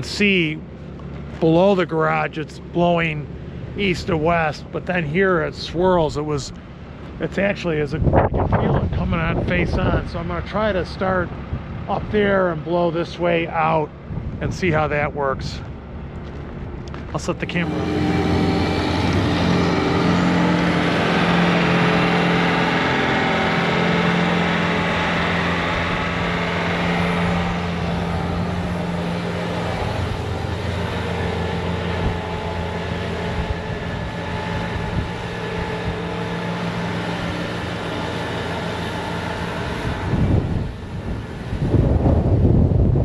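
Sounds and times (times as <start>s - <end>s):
diesel engine running: 0.0s - 43.0s
wind buffeting microphone: 5.2s - 12.6s, 13.9s - 43.0s.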